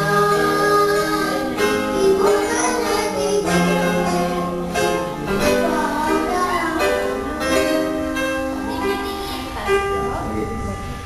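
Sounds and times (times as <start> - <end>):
girl singing into microphone: 0.0 - 9.8
electronic keyboard chords: 0.0 - 11.0.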